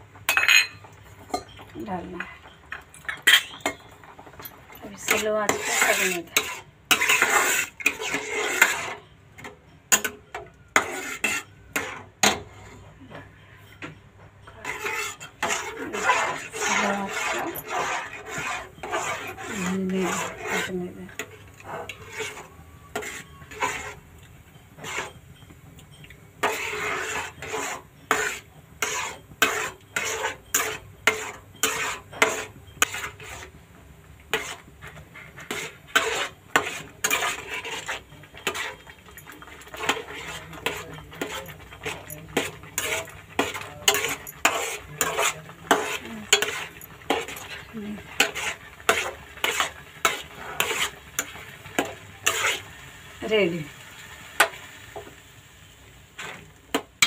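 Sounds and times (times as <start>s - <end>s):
metal spatula scraping a pan: 0.2s - 57.0s.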